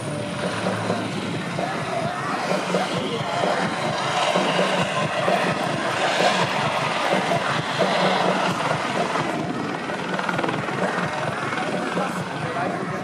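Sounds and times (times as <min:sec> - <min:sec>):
helicopter flying: 0:00.0 - 0:13.0.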